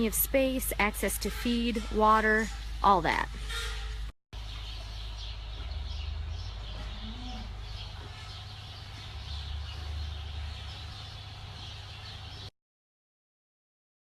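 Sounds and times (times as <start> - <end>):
small birds chirping: 0.1 - 12.5.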